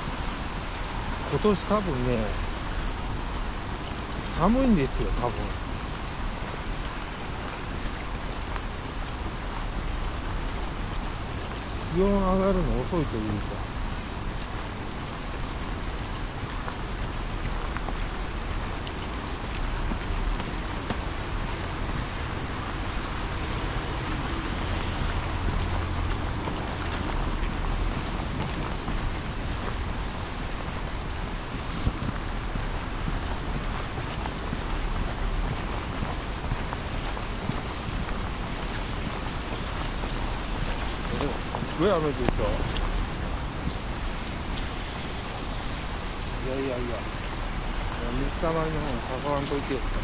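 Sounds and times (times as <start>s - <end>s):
heavy rain on pavement: 0.0s - 50.0s.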